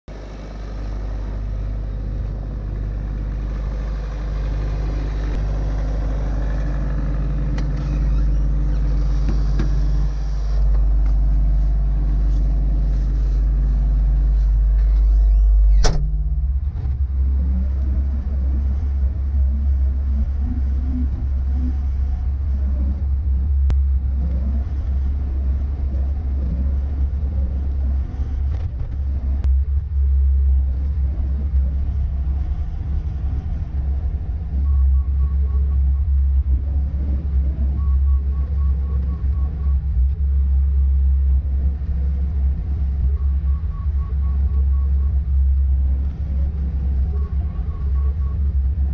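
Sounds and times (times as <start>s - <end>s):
diesel engine rumble: 0.0s - 48.9s.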